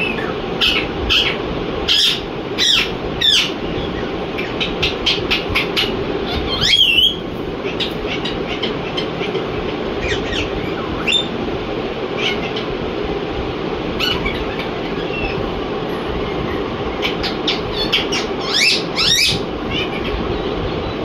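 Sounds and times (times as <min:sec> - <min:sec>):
parakeet chirping and squawking: 0:00.0 - 0:11.4, 0:12.1 - 0:12.8, 0:13.8 - 0:20.5
steady droning hum: 0:00.0 - 0:21.0.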